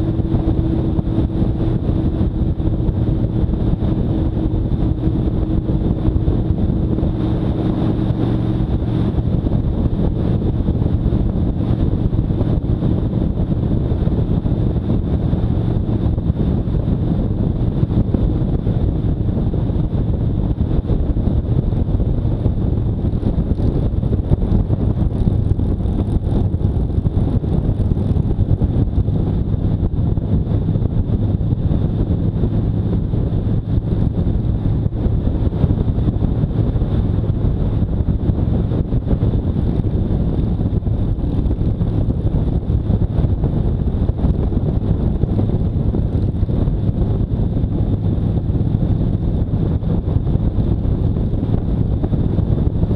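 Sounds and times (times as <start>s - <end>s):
motorcycle engine cruising: 0.0s - 52.9s
wind rush on microphone: 0.0s - 52.9s.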